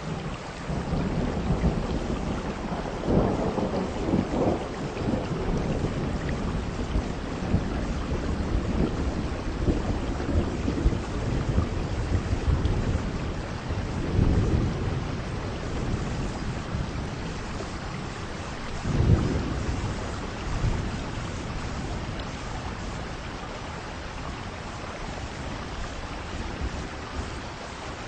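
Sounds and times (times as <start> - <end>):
heavy rain with wind: 0.0 - 28.0
thunder rumbling: 0.0 - 28.0.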